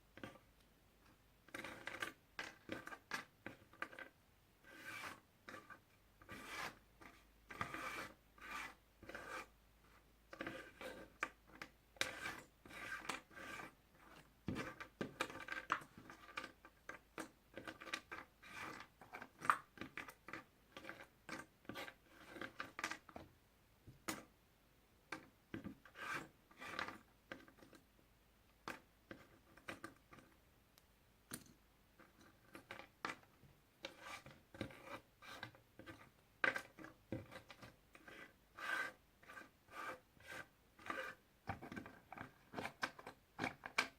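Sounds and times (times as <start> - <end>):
puzzle pieces rubbing and scraping: 1.5 - 23.2, 25.8 - 27.8, 32.0 - 43.9.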